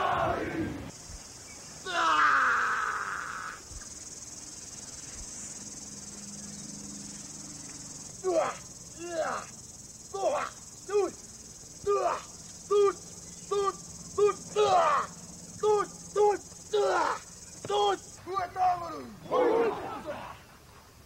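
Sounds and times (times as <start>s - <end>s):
high insect chirring: 0.9s - 19.2s.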